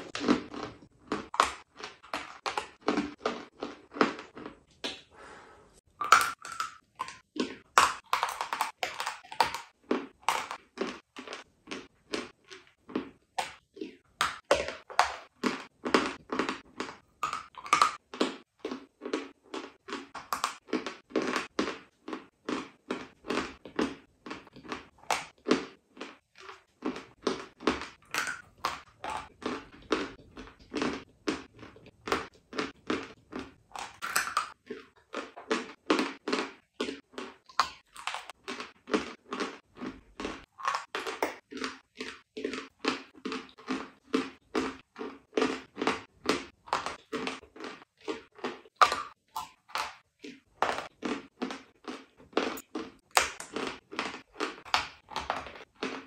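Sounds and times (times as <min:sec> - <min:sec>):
chalk crunching while chewed: 0:00.0 - 0:05.1, 0:05.9 - 0:56.0.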